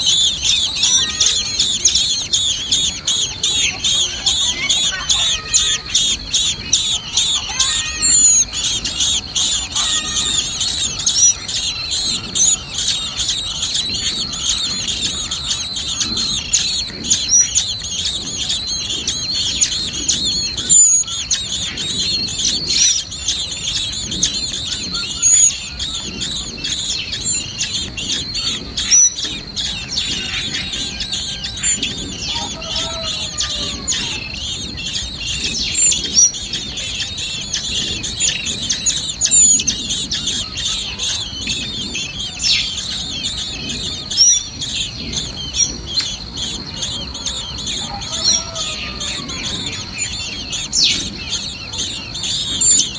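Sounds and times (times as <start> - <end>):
bird chicks cheeping: 0.0 - 52.9.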